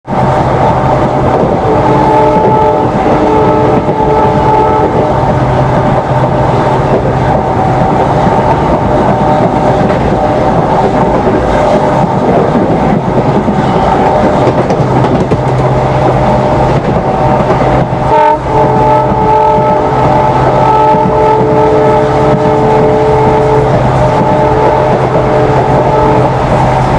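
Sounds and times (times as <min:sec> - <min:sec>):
train rumbling on track: 0:00.0 - 0:26.9
diesel locomotive engine humming: 0:00.1 - 0:26.9.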